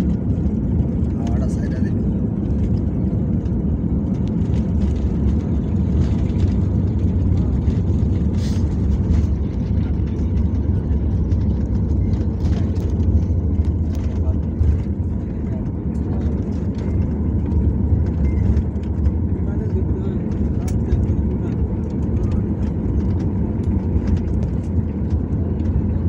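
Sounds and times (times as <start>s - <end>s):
engine and landing gear rumble: 0.0s - 26.0s.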